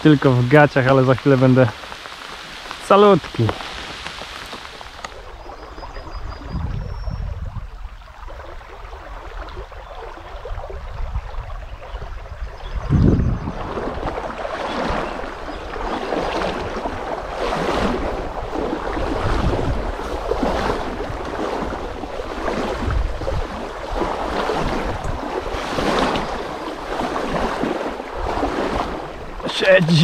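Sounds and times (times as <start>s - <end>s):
river water rushing and splashing: 0.0s - 7.0s, 7.6s - 12.7s, 13.5s - 30.0s
wind rumbling on microphone: 0.0s - 30.0s.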